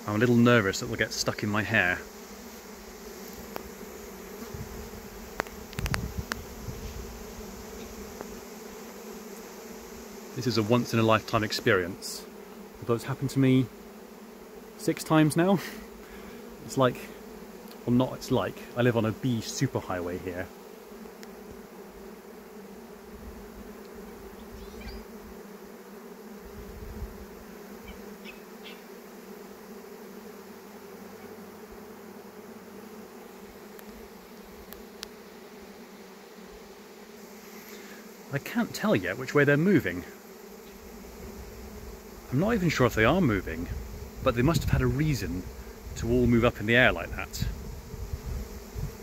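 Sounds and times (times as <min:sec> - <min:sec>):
bee swarm buzzing: 0:00.0 - 0:49.0.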